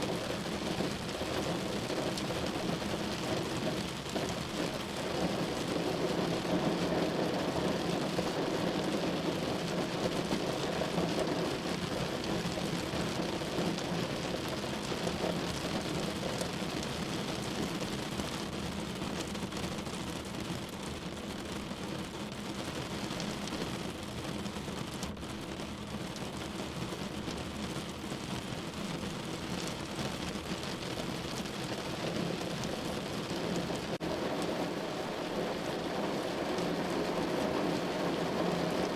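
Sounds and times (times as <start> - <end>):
steady rushing noise like rain: 0.0 - 38.9.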